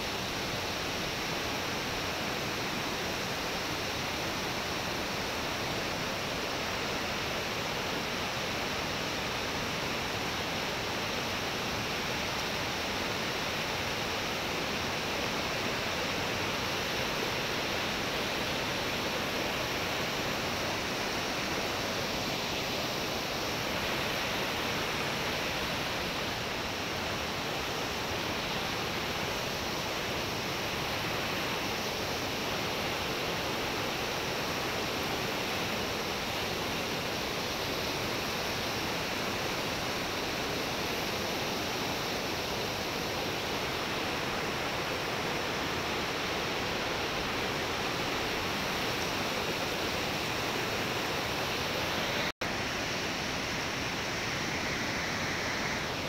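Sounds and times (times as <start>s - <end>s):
river rushing over rapids: 0.0s - 56.0s.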